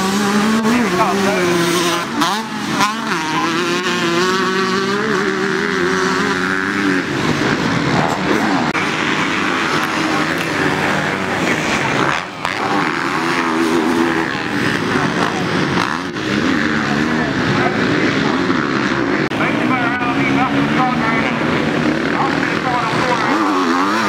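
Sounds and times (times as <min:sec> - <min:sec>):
racing engines revving: 0:00.0 - 0:24.0.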